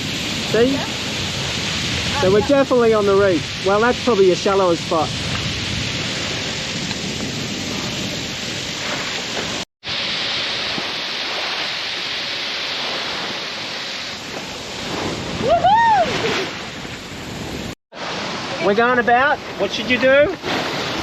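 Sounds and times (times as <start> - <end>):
wind on microphone: 0.0 - 18.8
water rushing past hull: 0.0 - 21.0.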